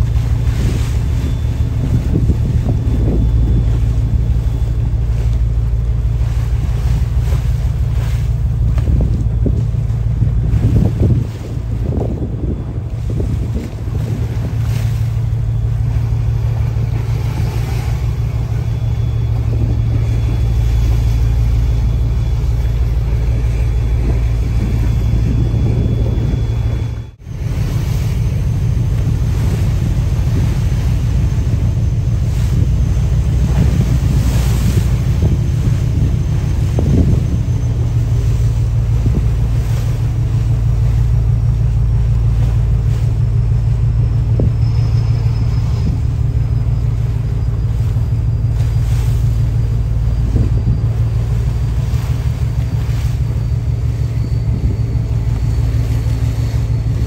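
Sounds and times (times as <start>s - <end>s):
boat engine rumbling: 0.0s - 57.0s
sea rushing past hull: 0.0s - 57.0s
wind on microphone: 0.0s - 57.0s.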